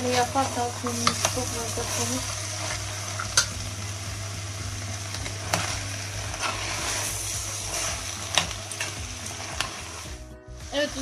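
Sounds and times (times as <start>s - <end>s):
beans sizzling in a pot: 0.0s - 11.0s.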